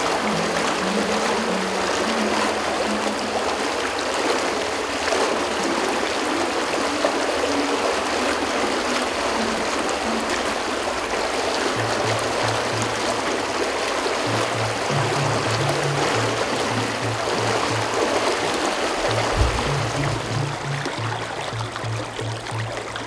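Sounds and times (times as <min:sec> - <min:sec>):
brook flowing: 0:00.0 - 0:23.0.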